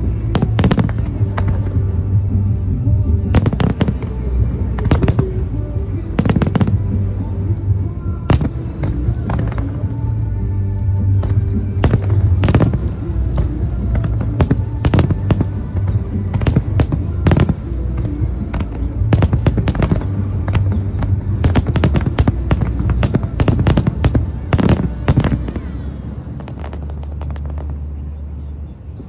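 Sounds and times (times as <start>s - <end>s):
fireworks bangs and crackles: 0.0s - 10.3s, 11.0s - 28.4s
music over loudspeakers: 0.0s - 27.6s.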